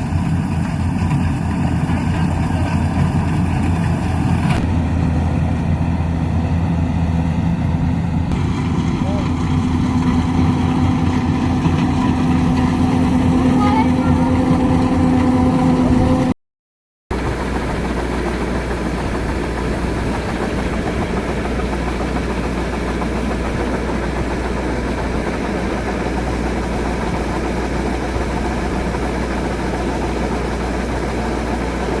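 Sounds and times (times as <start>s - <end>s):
diesel engine droning: 0.0s - 16.4s, 17.1s - 32.0s.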